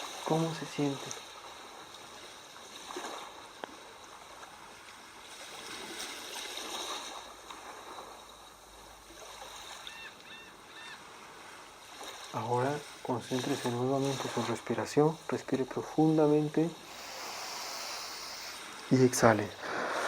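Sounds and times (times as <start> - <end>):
waves washing: 0.0 - 20.0.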